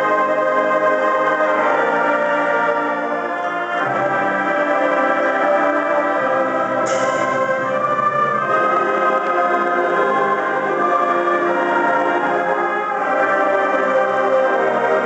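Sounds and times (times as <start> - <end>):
concert band playing sustained chords: 0.0 - 15.0.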